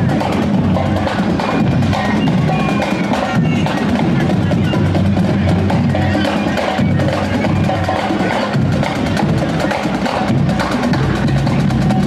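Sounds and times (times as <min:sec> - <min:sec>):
loud music with rapid percussion: 0:00.0 - 0:12.0.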